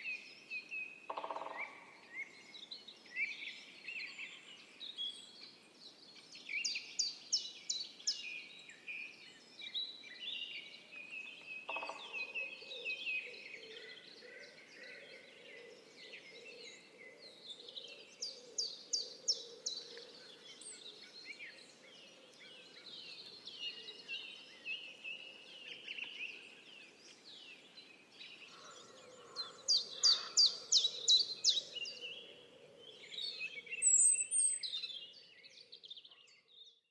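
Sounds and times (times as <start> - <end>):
songbirds singing: 0.0 - 36.9.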